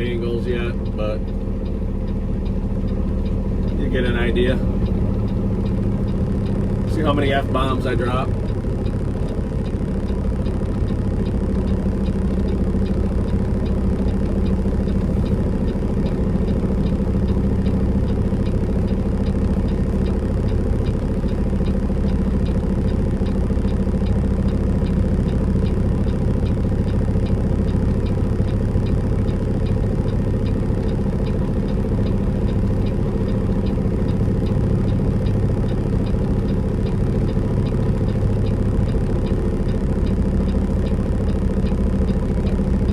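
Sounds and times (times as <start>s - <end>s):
truck diesel engine running: 0.0s - 42.9s.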